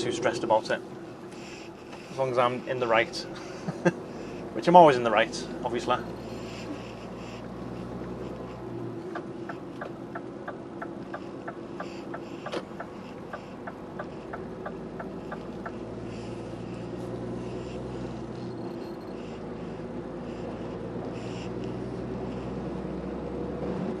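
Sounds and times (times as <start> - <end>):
engine hum and road noise: 0.0 - 24.0.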